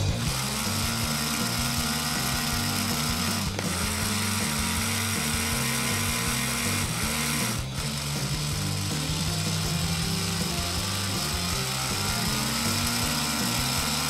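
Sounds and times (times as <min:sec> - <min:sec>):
background music: 0:00.0 - 0:14.0
small electric motor whirring: 0:00.0 - 0:14.0.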